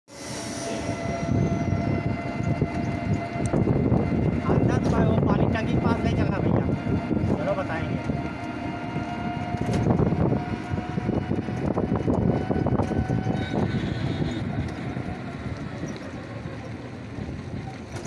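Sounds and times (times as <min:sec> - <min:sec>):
road and wind noise: 0:00.1 - 0:18.0
vehicle engine running and rattling: 0:01.3 - 0:18.0.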